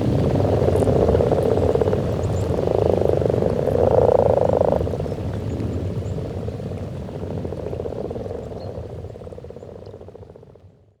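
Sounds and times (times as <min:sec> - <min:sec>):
frog chorus croaking: 0:00.1 - 0:05.6, 0:06.3 - 0:10.6.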